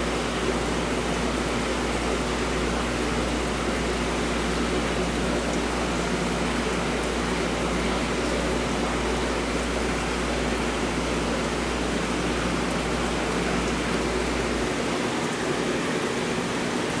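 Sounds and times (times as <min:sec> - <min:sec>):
aquarium water rushing: 0:00.0 - 0:17.0.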